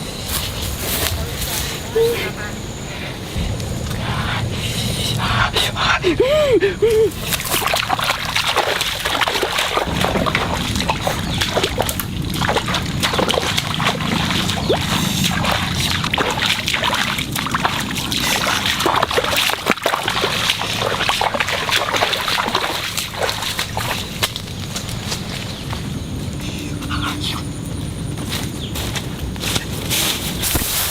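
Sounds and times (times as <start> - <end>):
water splashing and sloshing: 3.2 - 30.9.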